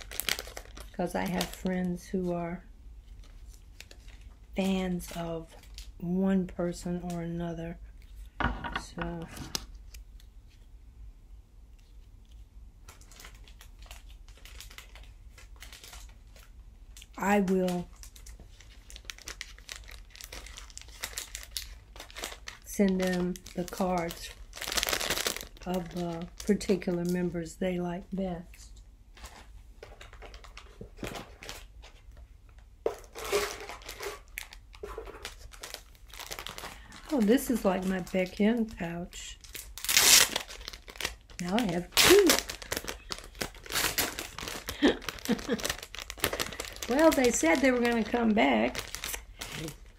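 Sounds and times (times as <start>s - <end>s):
merchandise and packaging rustling: 0.0s - 10.7s, 11.6s - 49.9s.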